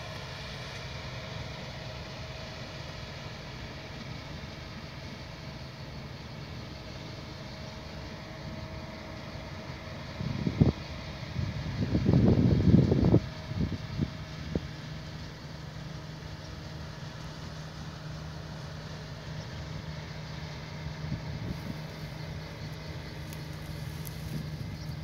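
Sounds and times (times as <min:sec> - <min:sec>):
combine harvester engine hum: 0:00.0 - 0:25.0.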